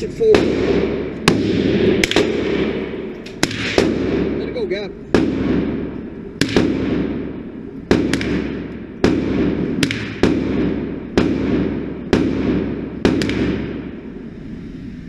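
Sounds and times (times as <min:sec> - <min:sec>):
gunshots with echo: 0:00.0 - 0:14.2.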